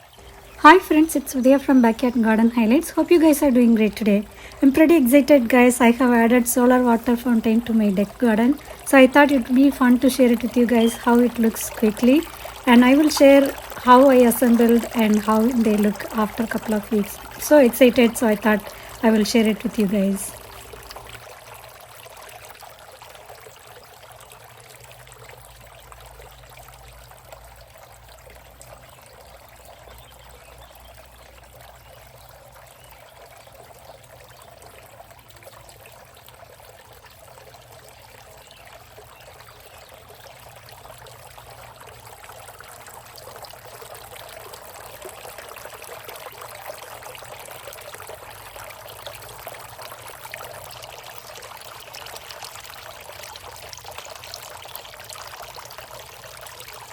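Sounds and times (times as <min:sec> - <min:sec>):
fountain water splashing: 0:00.0 - 0:56.9.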